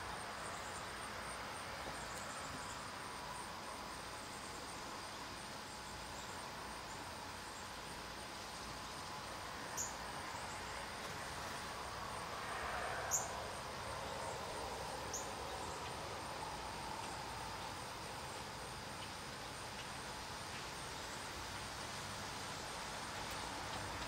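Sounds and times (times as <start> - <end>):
steady high hum: 0.0 - 24.0.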